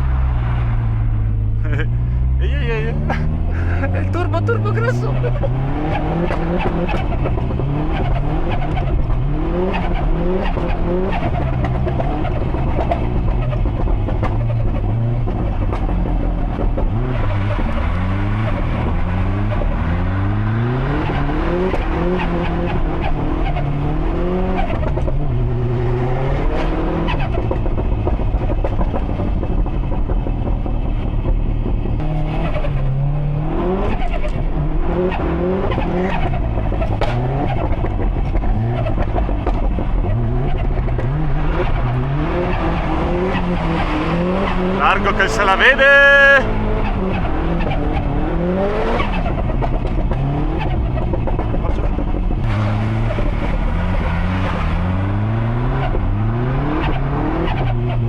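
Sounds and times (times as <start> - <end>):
turbocharged car engine revving: 0.0 - 58.0.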